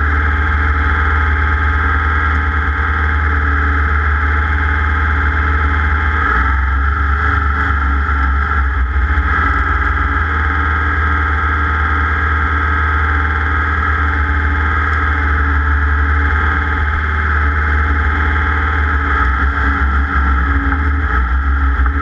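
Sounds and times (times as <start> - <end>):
racing engine running at speed: 0.0 - 22.0.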